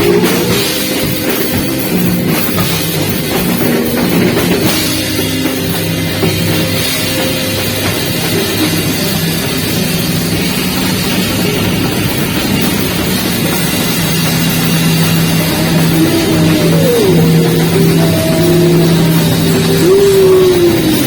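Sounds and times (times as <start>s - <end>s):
drums: 0.0s - 21.0s
live band music: 0.0s - 21.0s
sliding melodic notes: 0.0s - 21.0s.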